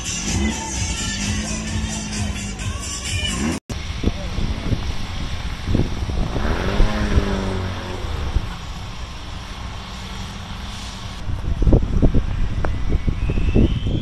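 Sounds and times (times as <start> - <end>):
engine passing by: 0.0 - 12.6.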